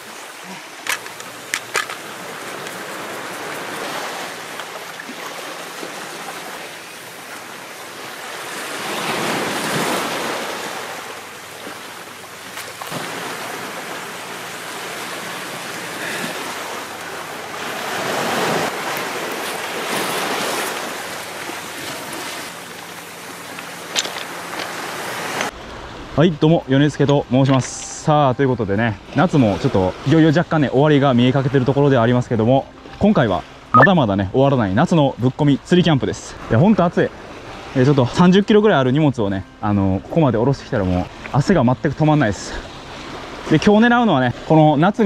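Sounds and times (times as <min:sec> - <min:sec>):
sea waves on rocky shore: 0:00.0 - 0:45.0.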